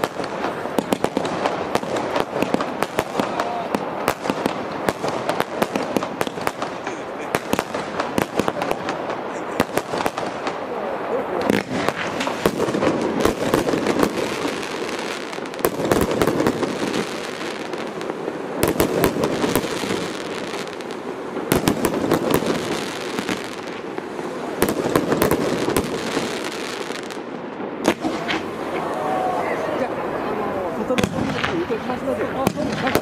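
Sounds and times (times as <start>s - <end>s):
fireworks bangs: 0.0s - 33.0s
fireworks crackling: 0.0s - 33.0s.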